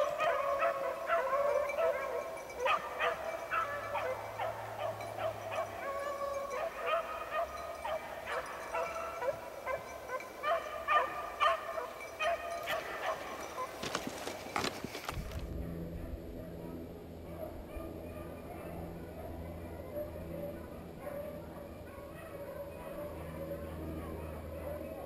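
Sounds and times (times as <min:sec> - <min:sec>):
pack of dogs baying: 0:00.0 - 0:25.0.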